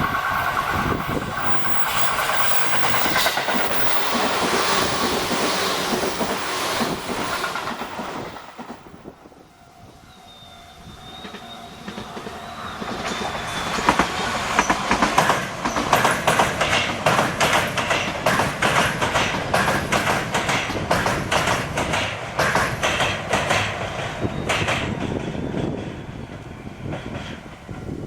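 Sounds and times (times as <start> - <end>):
train wheels knocking on rail joints: 0.0 - 9.0, 11.2 - 28.0
electric train passing: 0.0 - 28.0.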